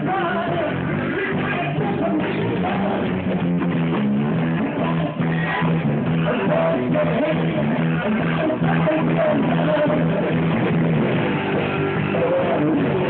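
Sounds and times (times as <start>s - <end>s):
drum kit: 0.0s - 13.0s
electric bass: 0.0s - 13.0s
person singing: 0.0s - 13.0s.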